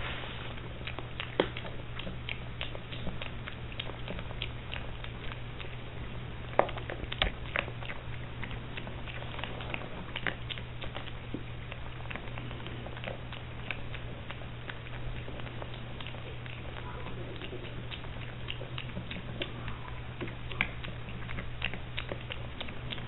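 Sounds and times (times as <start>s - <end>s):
piglet crunching feed pellets: 0.0s - 23.0s
steady low hum: 0.0s - 23.0s.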